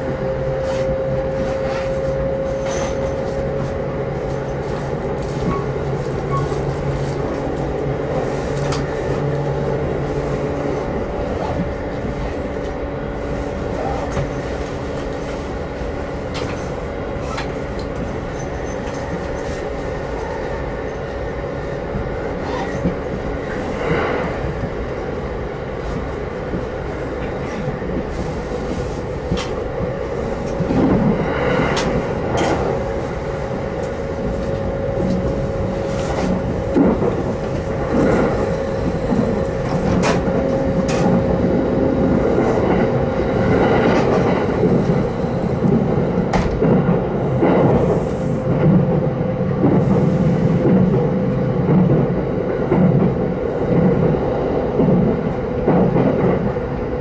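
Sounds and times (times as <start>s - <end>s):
rumble of wheels on rails: 0.0s - 57.0s
train whine: 0.0s - 57.0s.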